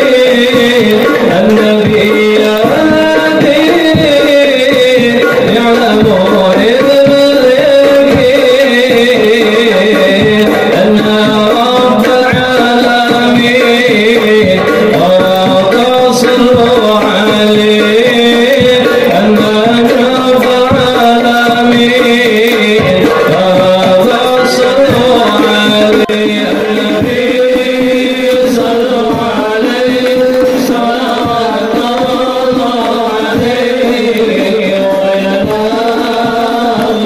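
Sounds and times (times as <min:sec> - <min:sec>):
frame drums rhythm: 0:00.0 - 0:37.0
religious group singing: 0:00.0 - 0:37.0.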